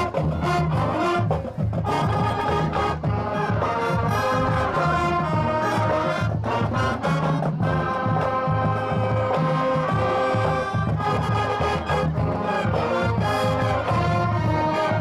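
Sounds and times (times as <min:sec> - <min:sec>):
marching band playing: 0:00.0 - 0:15.0
percussion: 0:00.0 - 0:15.0
trombones and trumpets: 0:00.0 - 0:15.0.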